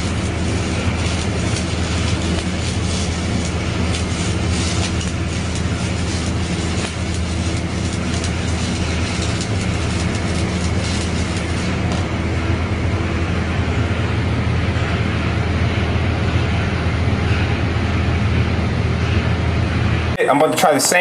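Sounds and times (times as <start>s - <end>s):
welding arc crackling: 0.0s - 19.4s
low mechanical hum: 0.0s - 21.0s.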